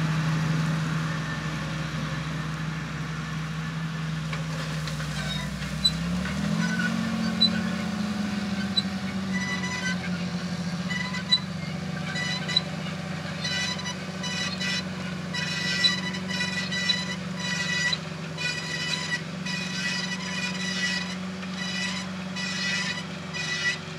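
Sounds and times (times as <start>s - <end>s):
tractor engine running under load: 0.0s - 23.9s.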